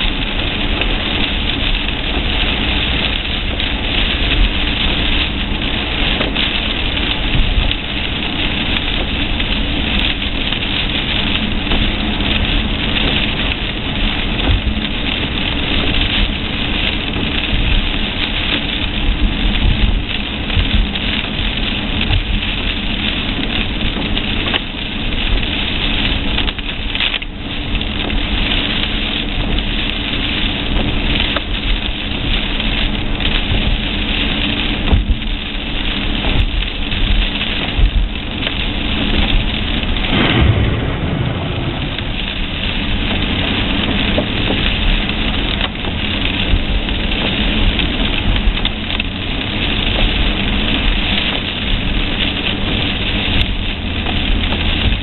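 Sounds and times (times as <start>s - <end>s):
car engine running: 0.0s - 55.0s
rain on a car: 0.0s - 55.0s.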